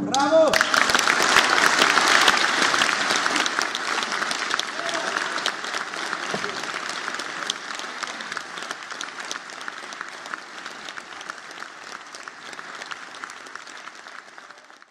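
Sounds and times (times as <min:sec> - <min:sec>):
audience applauding: 0:00.5 - 0:14.9.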